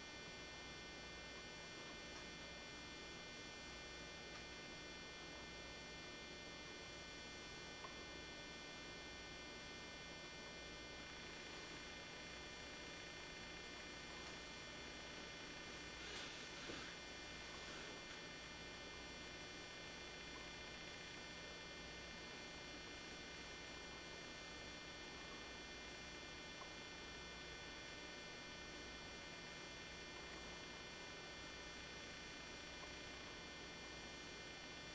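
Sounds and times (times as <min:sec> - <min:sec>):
faint electrical hum: 0:00.0 - 0:34.9
thin high whine: 0:06.1 - 0:34.9.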